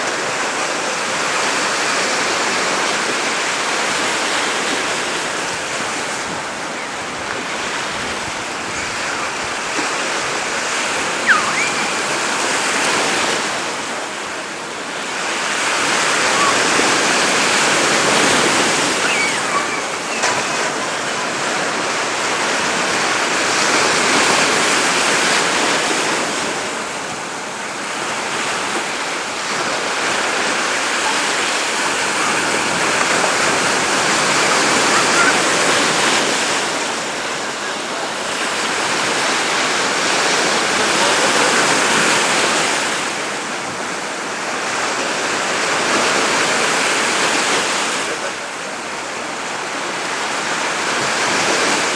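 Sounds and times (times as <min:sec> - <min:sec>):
sea surf breaking: 0:00.0 - 0:51.9.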